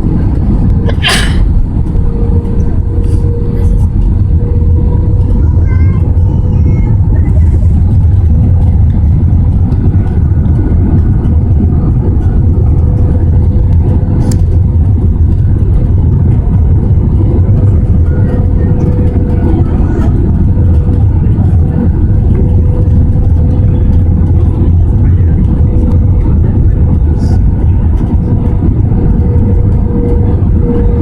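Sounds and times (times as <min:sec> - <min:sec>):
airliner cabin engine rumble: 0:00.0 - 0:31.0.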